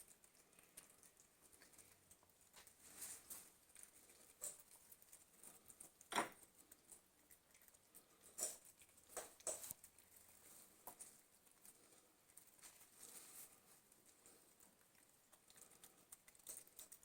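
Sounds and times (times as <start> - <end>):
cats crunching treats: 0.0 - 17.0.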